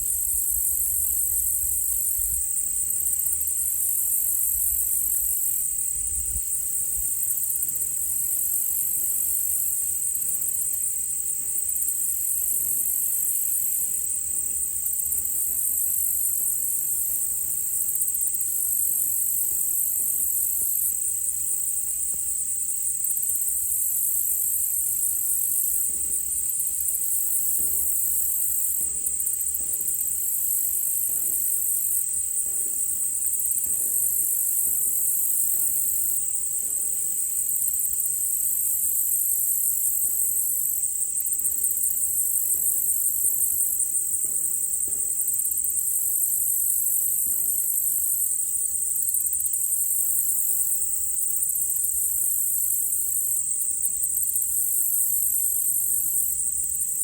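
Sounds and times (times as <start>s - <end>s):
insect chorus drone: 0.0s - 57.0s
pulsing insect trill: 0.0s - 57.0s.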